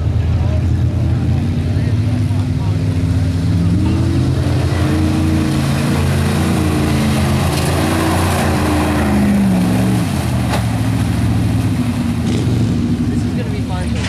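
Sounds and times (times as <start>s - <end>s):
pickup engine revving: 0.0s - 14.0s.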